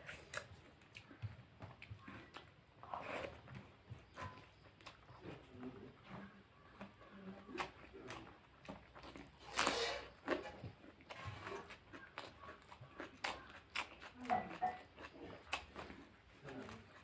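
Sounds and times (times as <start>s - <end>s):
chewing and mouth smacking: 0.0s - 2.6s, 4.0s - 17.0s.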